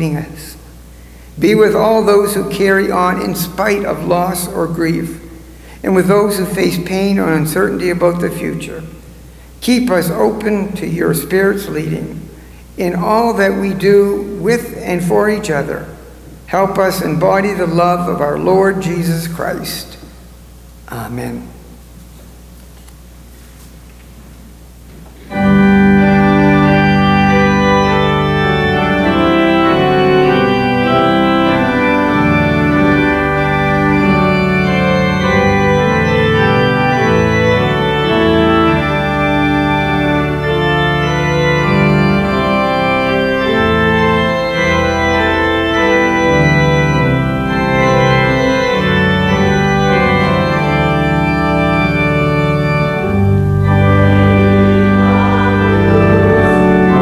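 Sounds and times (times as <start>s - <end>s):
church organ chords: 0.0s - 22.5s, 24.4s - 57.0s.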